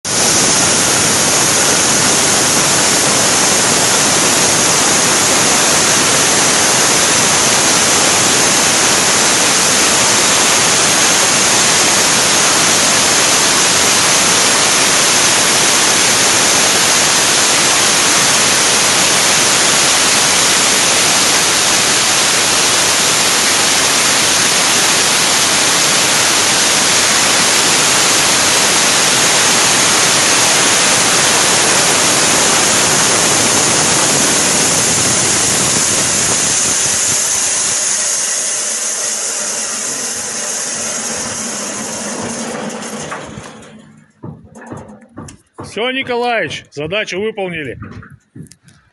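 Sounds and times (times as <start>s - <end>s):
band sawmill running: 0.0s - 48.8s.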